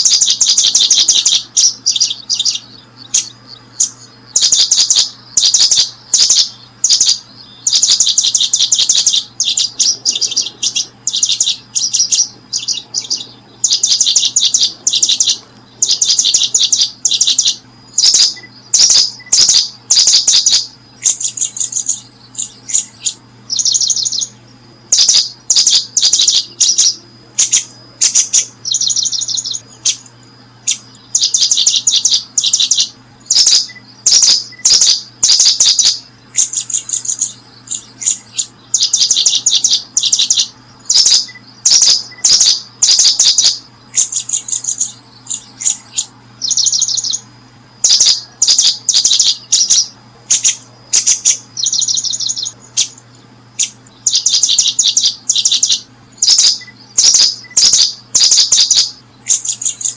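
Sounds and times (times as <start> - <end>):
birds chirping: 0.0 - 59.9
faint low hum: 0.0 - 59.9.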